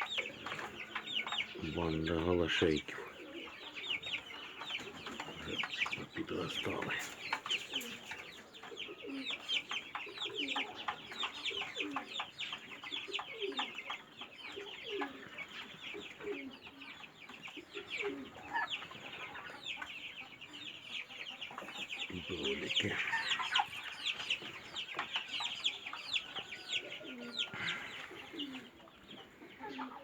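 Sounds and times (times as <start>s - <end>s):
chicken clucking: 0.0s - 30.0s
chicks peeping: 0.0s - 30.0s.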